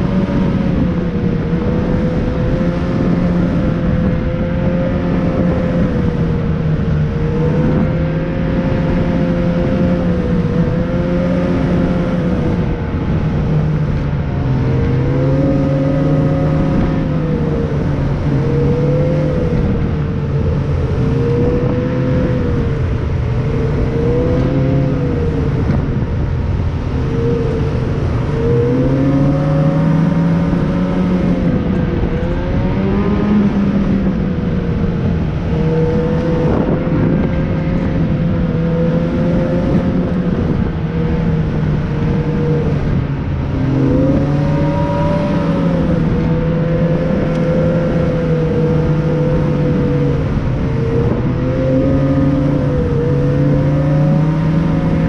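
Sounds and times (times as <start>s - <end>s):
steady rushing noise: 0.0s - 55.0s
vehicle engine running: 0.0s - 55.0s.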